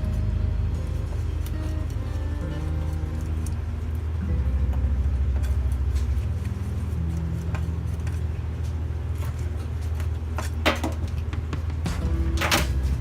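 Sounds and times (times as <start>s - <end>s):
low background music: 0.0s - 13.0s.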